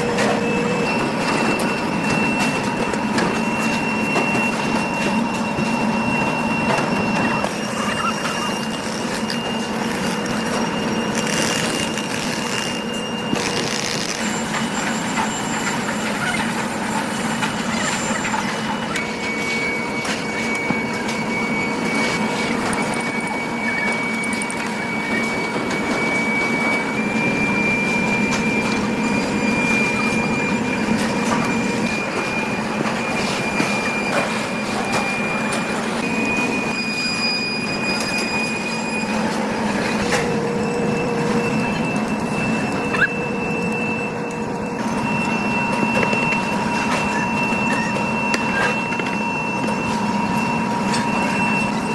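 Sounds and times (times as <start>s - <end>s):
factory machinery hum: 0.0s - 51.9s
high-pitched metallic whine: 0.0s - 51.9s.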